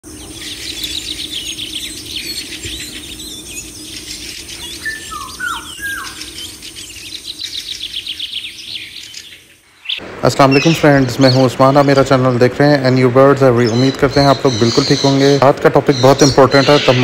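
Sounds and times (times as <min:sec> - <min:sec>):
many birds chirping: 0:00.0 - 0:17.0
steady low hum: 0:00.0 - 0:17.0.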